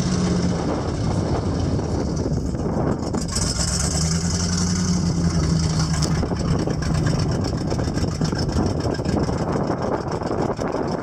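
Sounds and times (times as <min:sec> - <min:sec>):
engine hum: 0:00.0 - 0:11.0
low rumble: 0:00.0 - 0:11.0.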